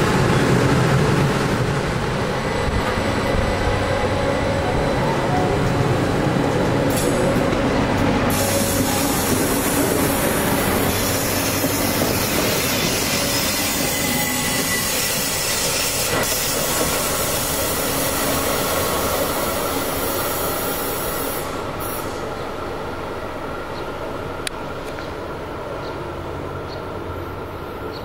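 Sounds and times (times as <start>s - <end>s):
train passing with rail noise: 0.0s - 28.0s.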